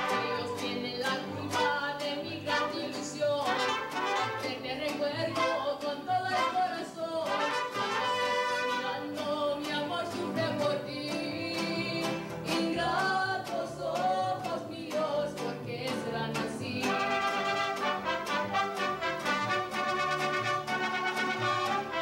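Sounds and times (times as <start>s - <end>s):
woman singing with vibrato: 0.0s - 19.5s
mariachi band strummed guitars: 0.0s - 22.0s.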